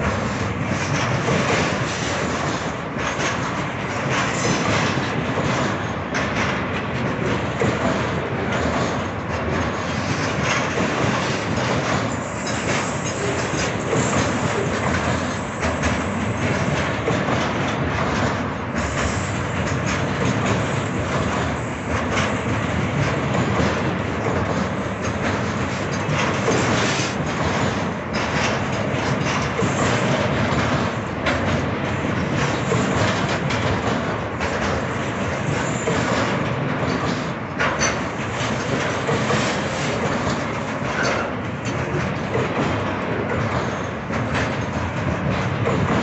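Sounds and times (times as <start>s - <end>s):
train wheels rumbling on rails: 0.0s - 46.0s
wheels clacking over rail joints: 0.0s - 46.0s.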